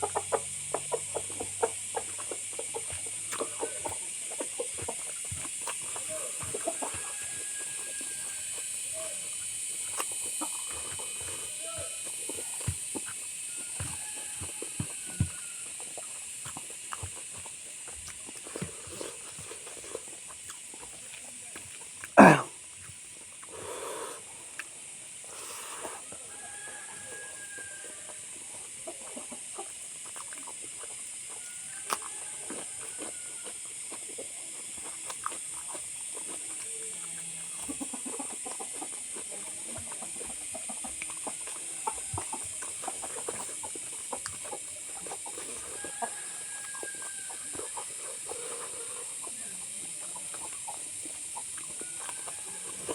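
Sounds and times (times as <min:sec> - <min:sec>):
chickens clucking: 0:00.0 - 0:21.2, 0:23.4 - 0:52.9
chewing and mouth smacking: 0:00.0 - 0:52.9.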